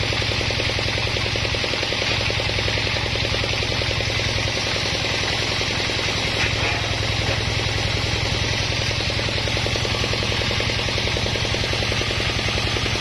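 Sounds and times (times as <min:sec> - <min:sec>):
sawmill engine pulsing: 0:00.0 - 0:13.0.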